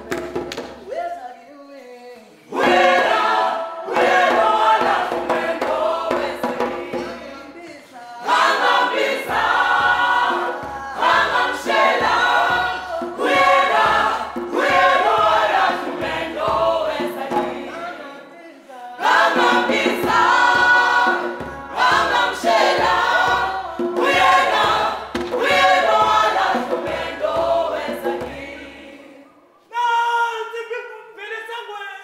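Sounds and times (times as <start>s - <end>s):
group of voices singing: 2.1s - 30.9s.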